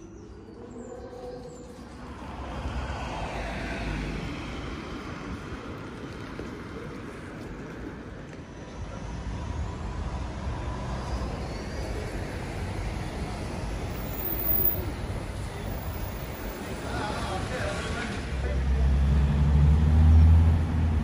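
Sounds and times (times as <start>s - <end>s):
bus engine rumble: 0.0s - 21.0s
road vehicles passing: 0.0s - 21.0s.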